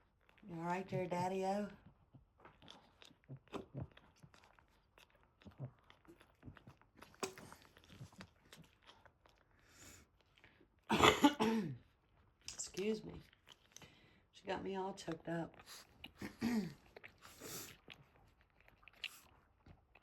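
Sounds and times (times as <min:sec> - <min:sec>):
dog licking and chewing: 0:00.1 - 0:10.9, 0:12.0 - 0:14.0, 0:14.9 - 0:20.0.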